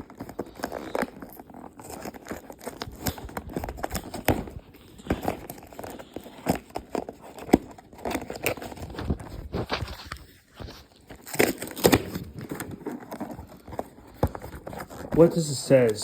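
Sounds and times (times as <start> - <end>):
cardboard box being torn open: 0.0 - 15.9.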